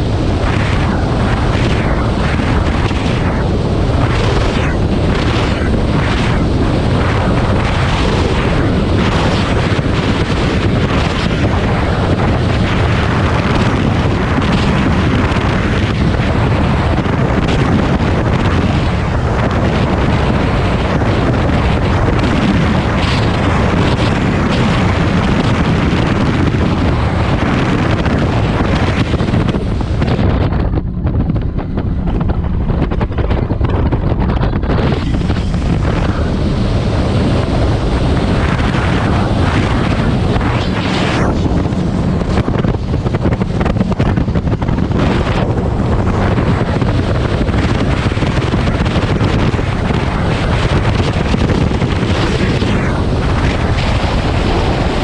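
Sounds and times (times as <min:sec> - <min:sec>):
powerboat engines drone: 0:00.0 - 0:55.0
wind buffeting microphone: 0:00.0 - 0:55.0.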